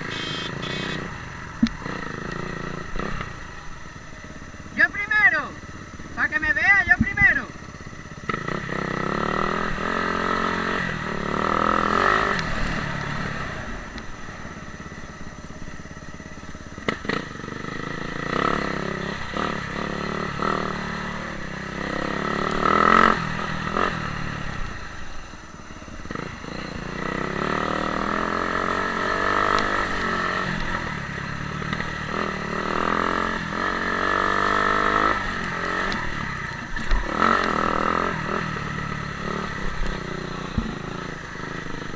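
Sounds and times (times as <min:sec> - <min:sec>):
motocross bike engine revving: 0:00.0 - 0:03.7, 0:04.4 - 0:14.6, 0:16.8 - 0:25.0, 0:26.0 - 0:41.9.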